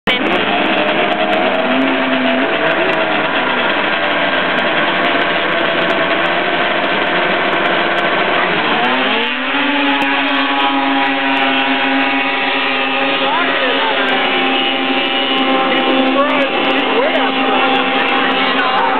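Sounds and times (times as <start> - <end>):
snowmobile engines running hard: 0.0 - 18.9.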